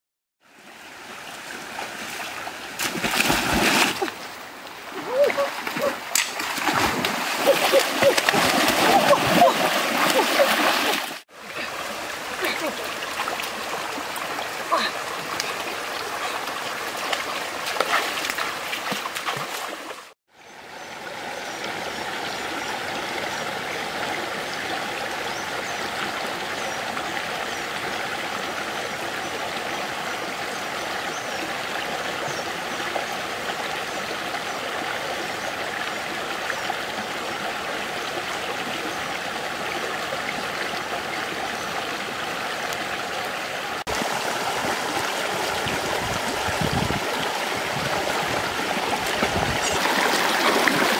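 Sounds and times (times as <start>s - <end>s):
stream running over stones: 0.4s - 50.9s.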